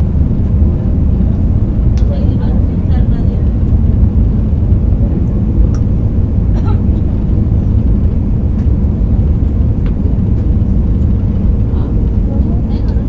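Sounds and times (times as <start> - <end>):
airliner engines rumbling: 0.0 - 13.0
faint steady hum: 0.0 - 13.0.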